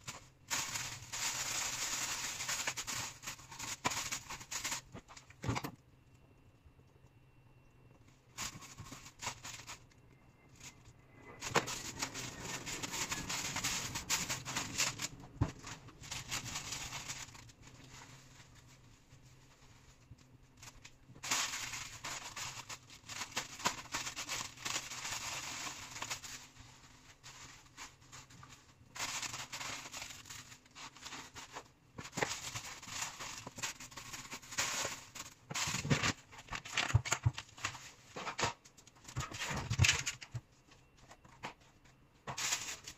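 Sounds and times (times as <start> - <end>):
plastic bag crinkling: 0.0 - 5.8, 8.3 - 41.4, 42.3 - 42.9.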